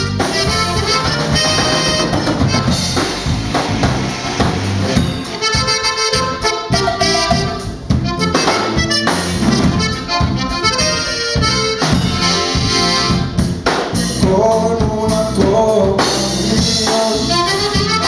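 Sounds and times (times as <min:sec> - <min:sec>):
accordion melody: 0:00.0 - 0:18.0
bass: 0:00.0 - 0:18.0
drums: 0:00.0 - 0:18.0.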